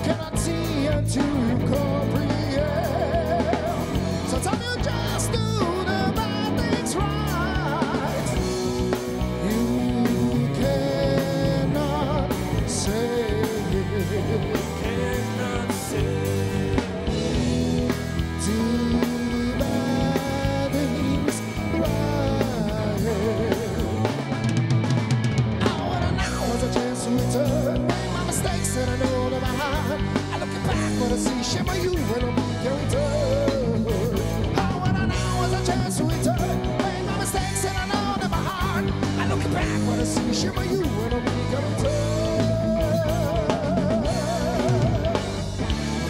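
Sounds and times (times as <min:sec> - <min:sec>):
man singing: 0:00.0 - 0:24.6, 0:25.5 - 0:46.0
rock band playing live: 0:00.0 - 0:46.0.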